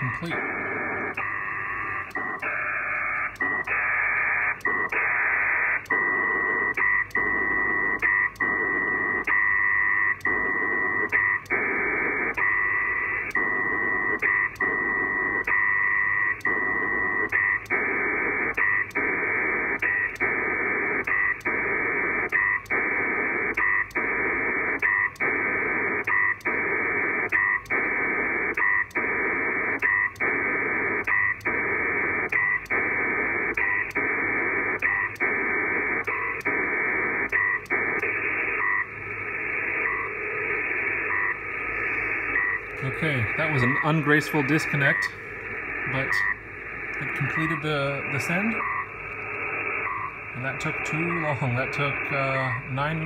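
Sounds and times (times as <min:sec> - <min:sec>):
warbling radio data signal: 0:00.0 - 0:53.0.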